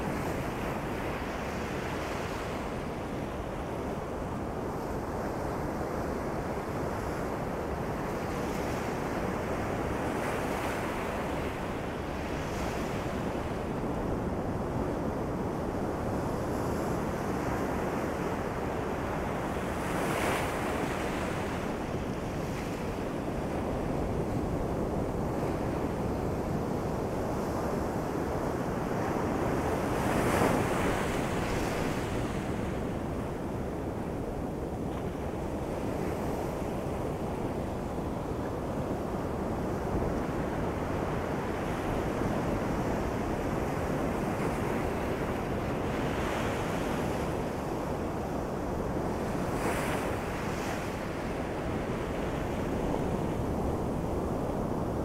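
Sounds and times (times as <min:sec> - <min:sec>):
ocean waves on beach: 0:00.0 - 0:55.0.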